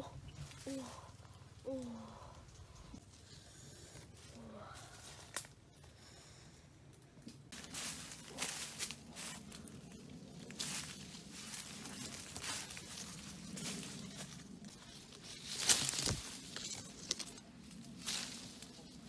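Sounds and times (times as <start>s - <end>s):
leaves and twigs rustling: 0.0s - 6.4s, 7.2s - 19.0s.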